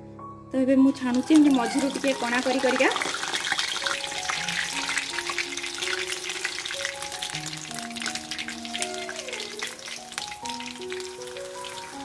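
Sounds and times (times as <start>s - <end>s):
background music with held notes: 0.0s - 12.0s
oil sizzling and crackling: 1.0s - 12.0s.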